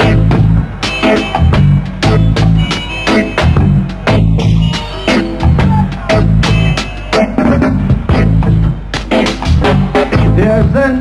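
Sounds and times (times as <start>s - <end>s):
bass: 0.0s - 11.0s
drum kit: 0.0s - 11.0s
guitar: 0.0s - 11.0s
keyboards: 0.0s - 11.0s.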